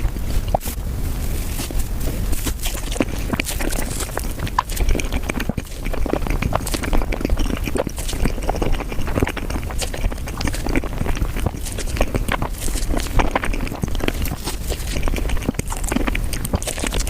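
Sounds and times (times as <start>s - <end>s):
sped-up chewing and mouth sounds: 0.0s - 17.0s.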